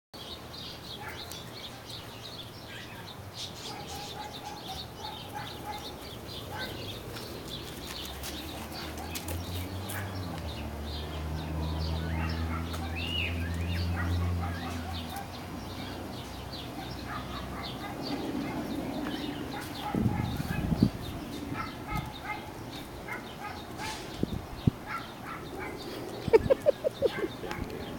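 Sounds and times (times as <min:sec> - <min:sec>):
birds chirping: 0:00.2 - 0:27.9.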